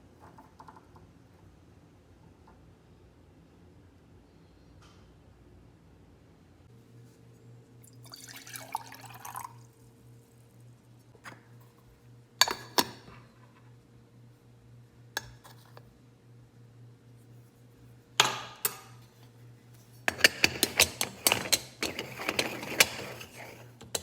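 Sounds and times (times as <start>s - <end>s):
low steady hum: 0.9s - 24.0s.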